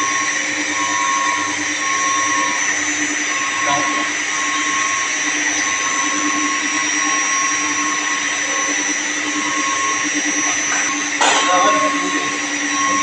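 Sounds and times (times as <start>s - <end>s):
machinery motor hum: 0.0s - 13.0s
steady whining tones: 0.0s - 13.0s.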